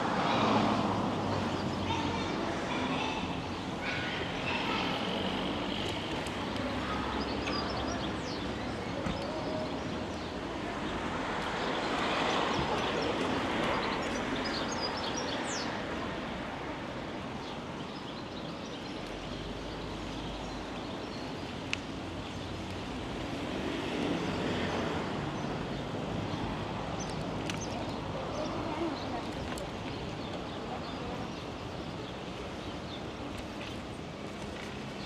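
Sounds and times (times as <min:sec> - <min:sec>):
rushing noise of bicycle ride: 0:03.6 - 0:35.0.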